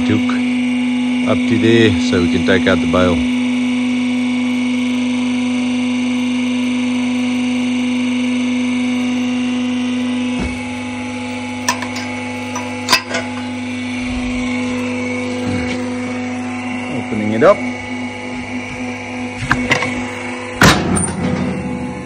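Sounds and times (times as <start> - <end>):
hydraulic press humming: 0.0 - 22.0.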